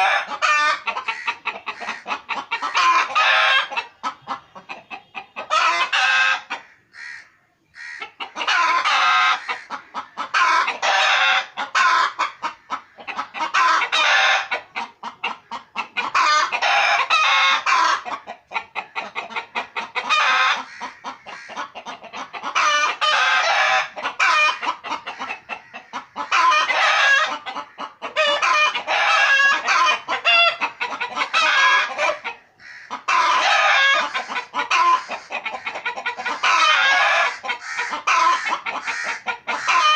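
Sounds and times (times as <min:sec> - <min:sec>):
chickens clucking loudly: 0:00.0 - 0:39.9.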